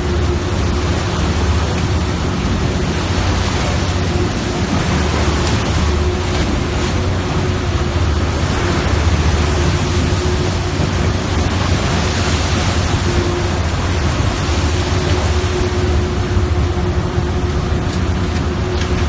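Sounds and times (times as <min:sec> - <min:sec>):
boat engine running: 0:00.0 - 0:19.0
wind and water rushing: 0:00.0 - 0:19.0.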